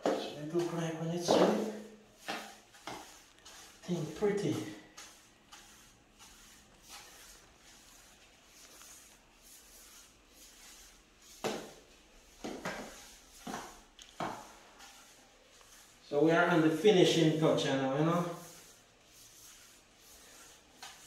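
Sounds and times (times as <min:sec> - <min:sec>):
push broom sweeping tile floor: 0:00.0 - 0:21.0.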